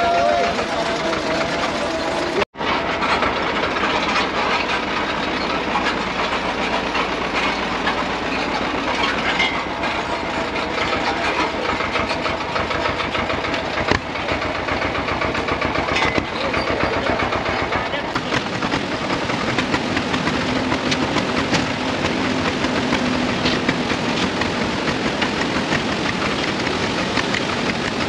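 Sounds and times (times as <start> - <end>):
diesel tractor engine running: 0.0 - 28.0.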